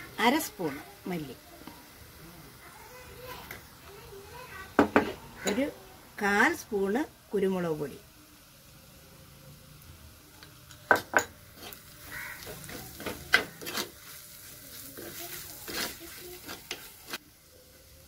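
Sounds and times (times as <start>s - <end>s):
light sizzle: 0.0s - 18.0s.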